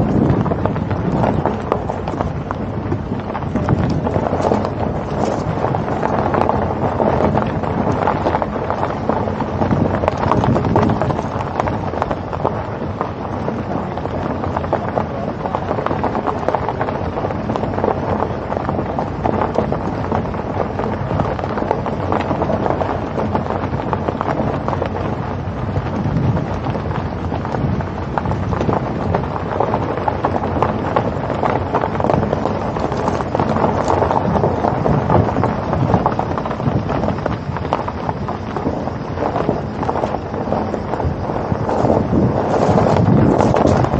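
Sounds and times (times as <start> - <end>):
road noise: 0.0 - 43.9
wind buffeting microphone: 0.0 - 43.9.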